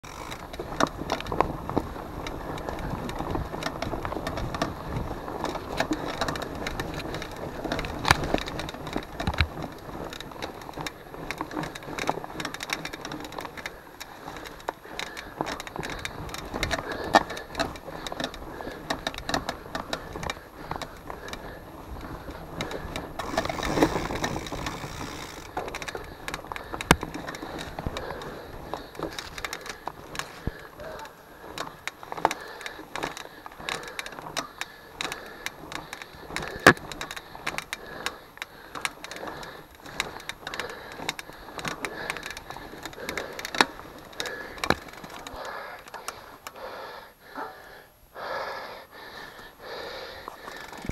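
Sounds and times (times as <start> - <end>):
bike rattling over bumps: 0.0 - 47.6, 48.2 - 50.9
bike tyres rolling on dirt: 0.0 - 50.9.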